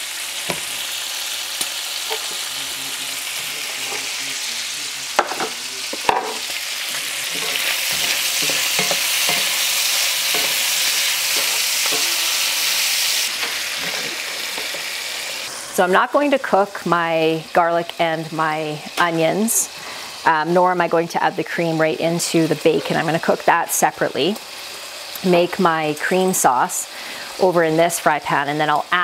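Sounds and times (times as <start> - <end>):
bacon sizzling in a skillet: 0.0 - 29.0.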